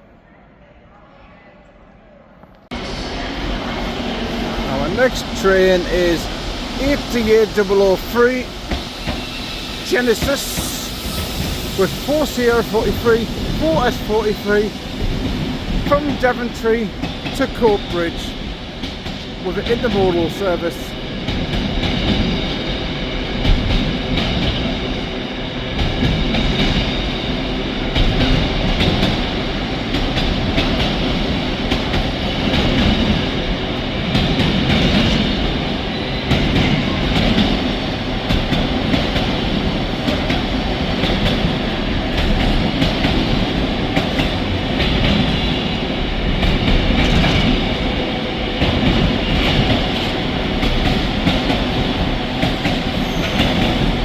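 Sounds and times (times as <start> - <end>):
train wheels clattering over rails: 4.0 - 54.0.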